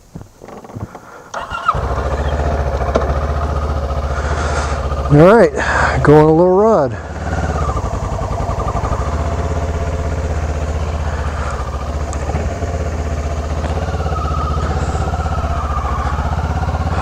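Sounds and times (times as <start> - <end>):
motorcycle engine running steadily: 1.6 - 17.0.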